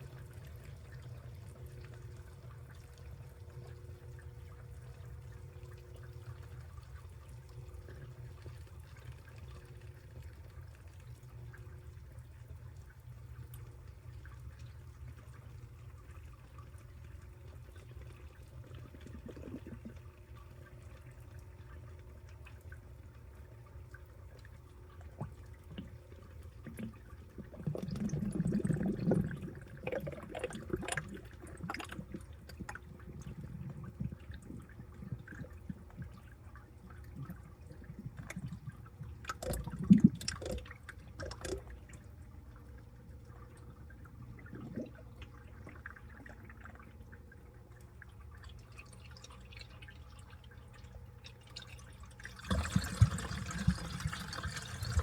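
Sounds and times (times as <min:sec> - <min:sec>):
faint steady hum: 0:00.0 - 0:55.0
water pouring in: 0:00.0 - 0:55.0.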